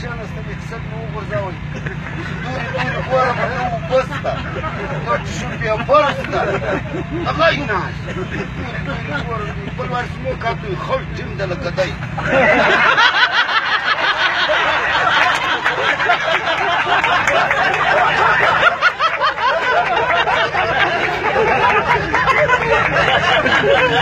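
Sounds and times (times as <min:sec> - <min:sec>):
men laughing: 0:01.0 - 0:24.0.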